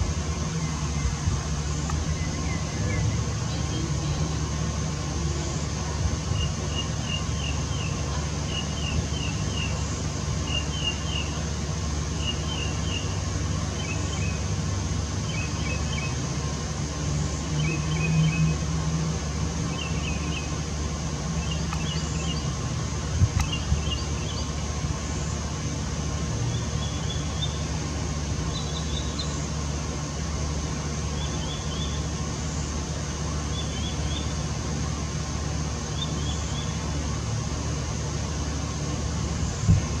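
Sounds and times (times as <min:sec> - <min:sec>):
steady low drone: 0:00.0 - 0:40.0.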